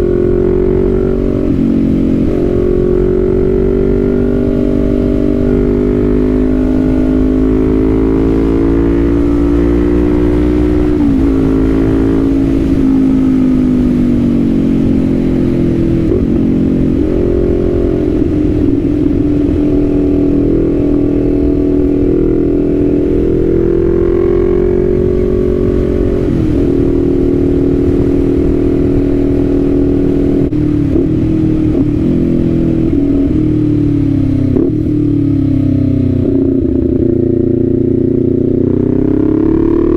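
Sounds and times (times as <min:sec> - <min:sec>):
low wind: 0:00.0 - 0:39.9
motorcycle engine revving: 0:00.0 - 0:39.9
road rumble: 0:00.0 - 0:39.9.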